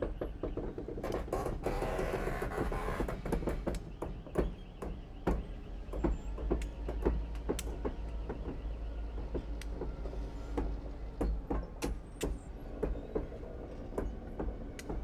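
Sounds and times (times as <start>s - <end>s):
locomotive metallic clanks and squeaks: 0.0s - 15.0s
train low rumble: 0.0s - 15.0s.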